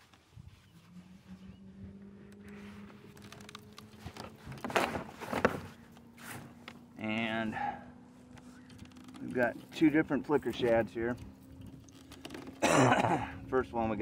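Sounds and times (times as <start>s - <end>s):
steady low hum: 0.6s - 14.0s.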